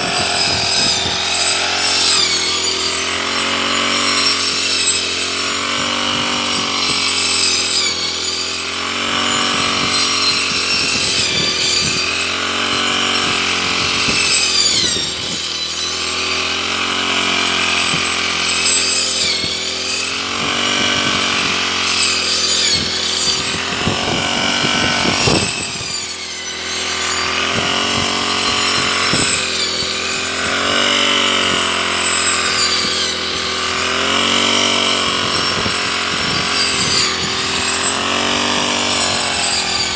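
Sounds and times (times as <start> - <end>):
brush cutter cutting grass: 0.0 - 39.9.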